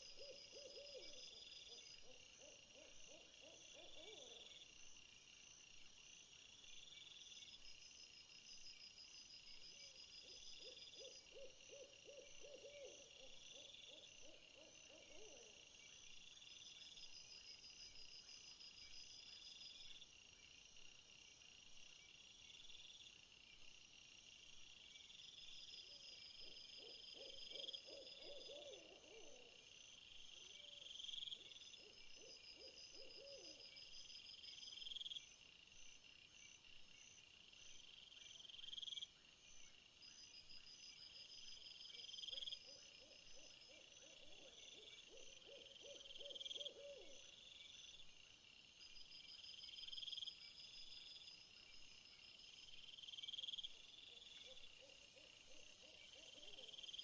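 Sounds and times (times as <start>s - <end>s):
insect chorus chirping: 0.0s - 57.0s.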